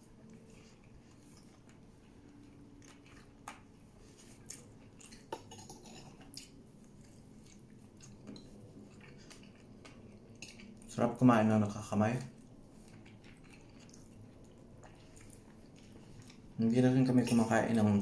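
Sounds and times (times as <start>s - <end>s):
chewing: 0.0s - 17.6s.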